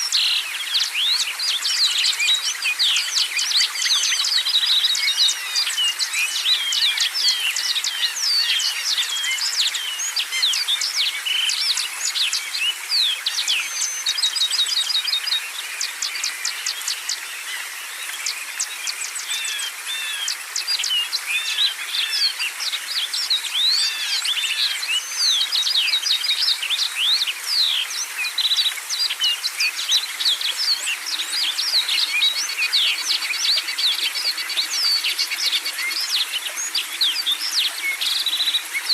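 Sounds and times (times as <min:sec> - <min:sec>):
chorus of songbirds singing: 0:00.0 - 0:38.9.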